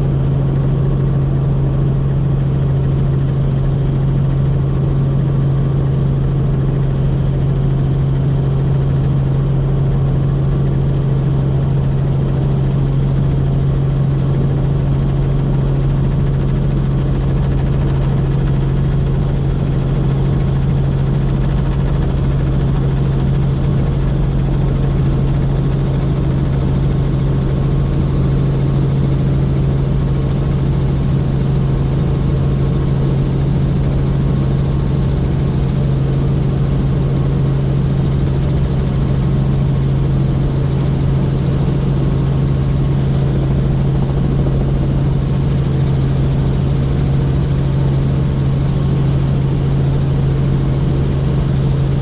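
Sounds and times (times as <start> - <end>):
helicopter droning in flight: 0.0 - 52.0.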